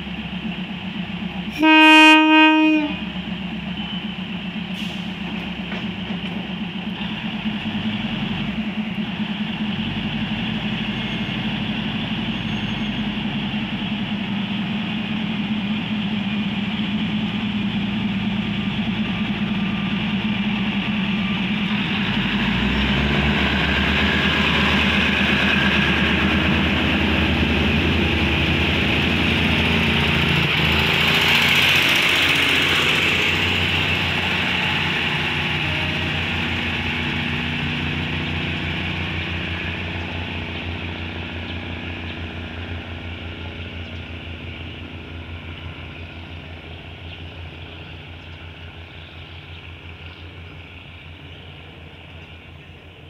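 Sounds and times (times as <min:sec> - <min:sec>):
train engines droning: 0:00.0 - 0:53.0
train wheels on rails: 0:00.0 - 0:53.0.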